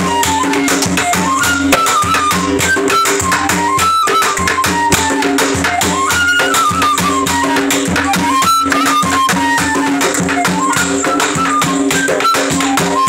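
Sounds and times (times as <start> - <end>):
bamboo flute melody: 0.0 - 13.0
hand drum: 0.0 - 13.0
rapid clicking percussion: 0.0 - 13.0.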